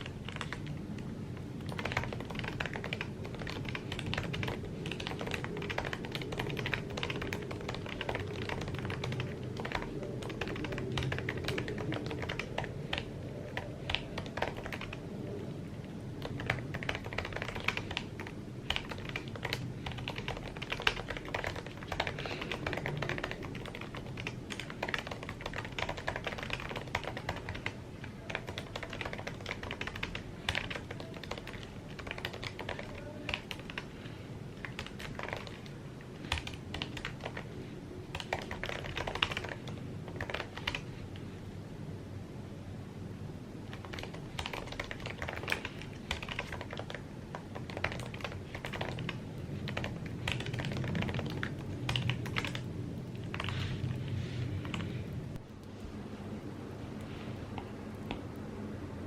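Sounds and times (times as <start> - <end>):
keyboard typing: 0.0 - 41.2, 43.6 - 55.8, 57.0 - 58.4
low steady background: 0.0 - 59.0.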